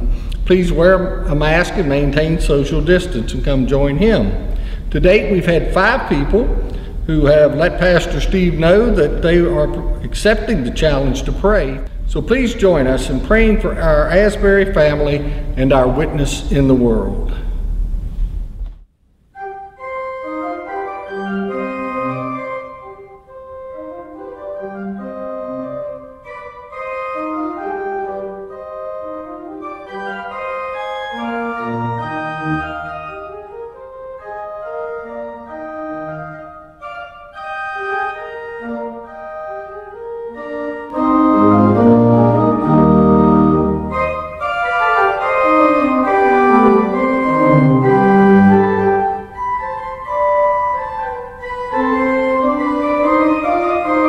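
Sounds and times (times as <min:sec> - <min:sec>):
pipe organ playing slow piece: 0:00.0 - 0:17.8, 0:19.3 - 0:54.0.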